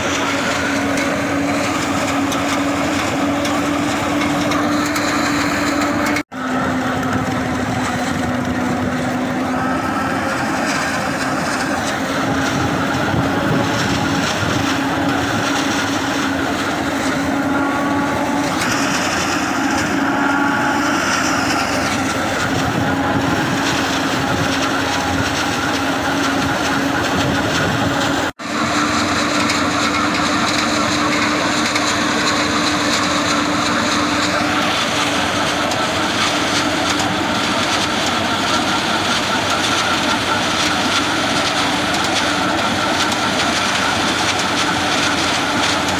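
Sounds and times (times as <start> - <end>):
harvester chopping maize: 0.0 - 45.9
tractor diesel engine running: 0.0 - 45.9.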